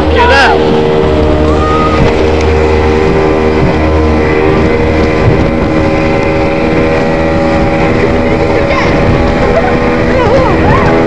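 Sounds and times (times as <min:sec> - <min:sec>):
speedboat engine running: 0:00.0 - 0:11.0
water rushing along hull: 0:00.0 - 0:11.0.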